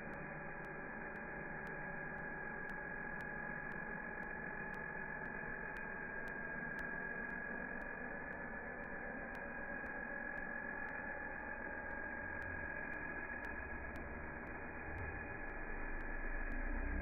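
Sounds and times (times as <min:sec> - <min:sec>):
model helicopter whine: 0:00.0 - 0:17.0.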